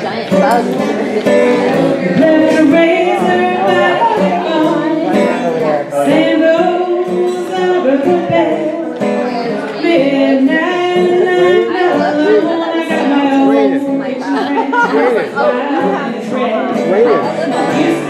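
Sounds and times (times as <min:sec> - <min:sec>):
strummed acoustic guitar: 0:00.0 - 0:18.0
woman singing folk song: 0:00.0 - 0:18.0.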